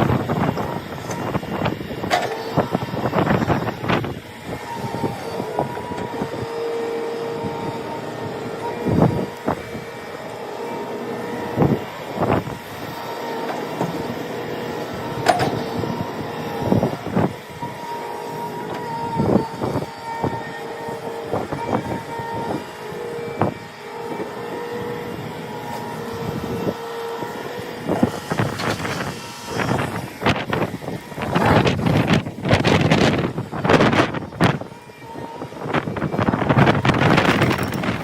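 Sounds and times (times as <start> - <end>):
construction machinery whine: 0.0 - 38.0.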